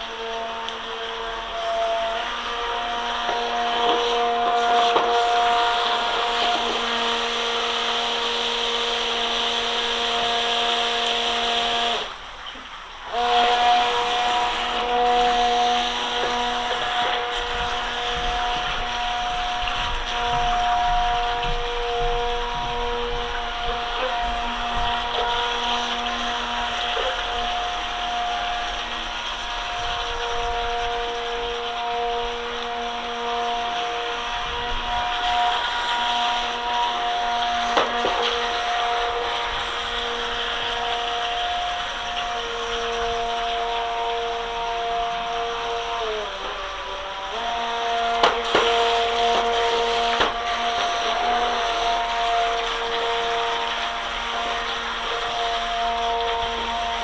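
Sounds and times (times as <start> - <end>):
electric motor whine: 0.0 - 57.0
rushing water: 0.0 - 57.0.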